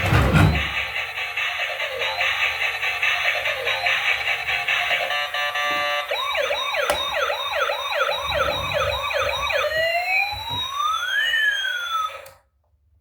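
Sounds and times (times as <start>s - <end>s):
toy electronic siren: 0.5s - 12.4s.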